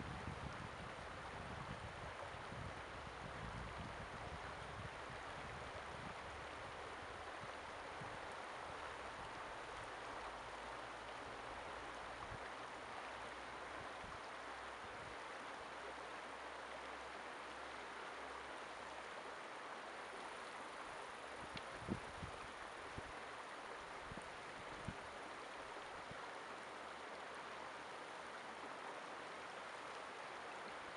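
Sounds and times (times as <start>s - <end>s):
river rushing over rocks: 3.8s - 30.9s.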